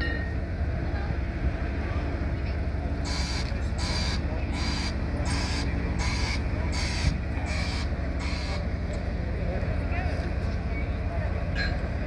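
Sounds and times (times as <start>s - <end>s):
diesel machinery running: 0.0s - 12.0s.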